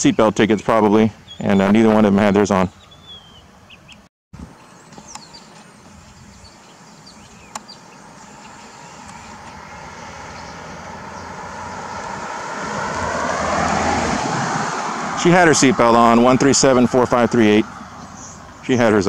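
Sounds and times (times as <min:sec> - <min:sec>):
vehicle approaching on paved road: 0:02.8 - 0:19.0.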